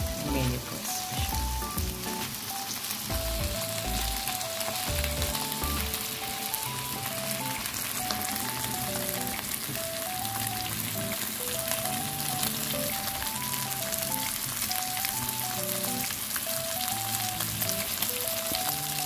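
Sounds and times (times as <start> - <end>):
oysters sizzling in hot oil: 0.0 - 19.0
simple background melody: 0.0 - 19.0.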